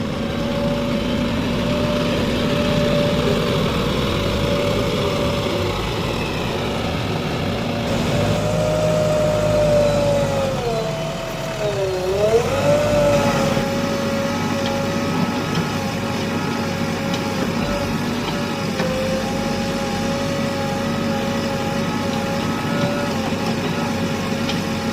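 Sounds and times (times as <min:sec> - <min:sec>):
backhoe loader diesel engine whine: 0:00.0 - 0:24.9.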